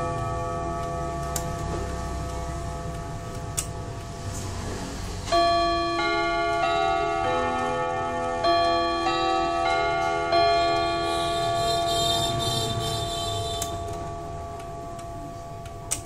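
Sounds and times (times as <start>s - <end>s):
wall clock chiming melody: 0.0s - 16.0s.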